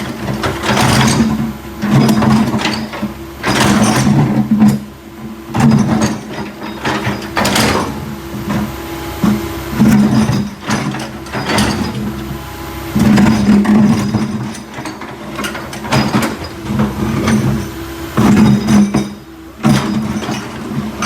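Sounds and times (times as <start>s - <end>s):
metallic clanks and knocks: 0.0s - 4.9s, 5.6s - 12.1s, 13.0s - 21.0s
backhoe engine running: 0.0s - 21.0s.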